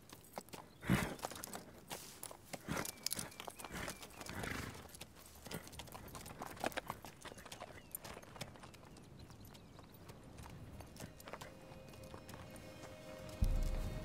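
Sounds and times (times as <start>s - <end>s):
hooves clopping on stony ground: 0.0s - 14.0s.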